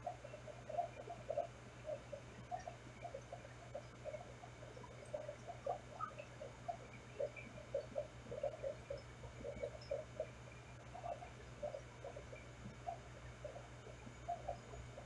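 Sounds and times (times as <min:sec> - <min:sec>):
aquarium hum underwater: 0:00.0 - 0:15.0
bubbling blips: 0:00.1 - 0:15.0.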